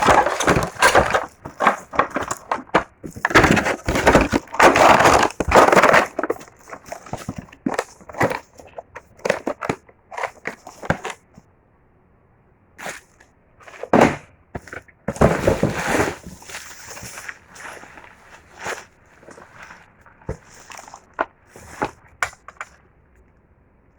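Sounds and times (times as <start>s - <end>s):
packaging crinkling and crunching: 0.0s - 11.2s, 14.6s - 22.8s.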